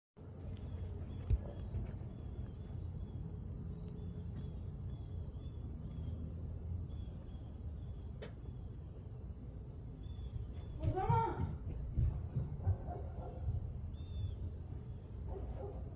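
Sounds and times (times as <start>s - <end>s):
insects trilling: 0.2s - 15.9s.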